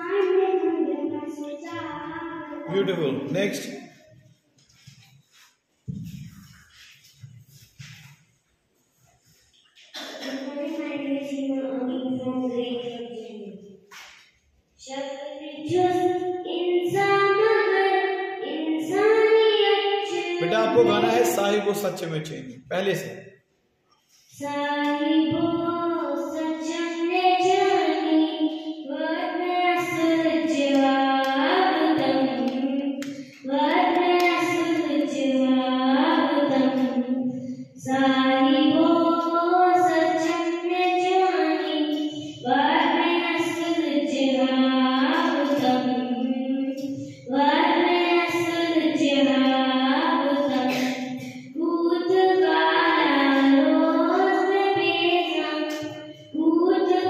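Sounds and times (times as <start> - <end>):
child singing: 0.0 - 3.1, 10.0 - 13.6, 14.8 - 21.6, 24.3 - 57.0.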